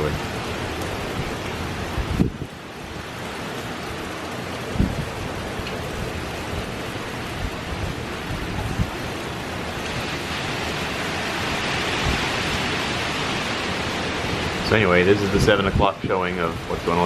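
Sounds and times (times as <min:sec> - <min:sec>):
wind and rain rushing: 0:00.0 - 0:17.0.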